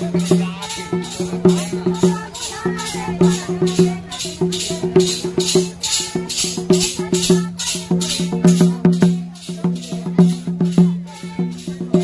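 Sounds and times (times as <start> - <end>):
shaker rattle: 0.0 - 12.0
tuned hand drum: 0.0 - 12.0.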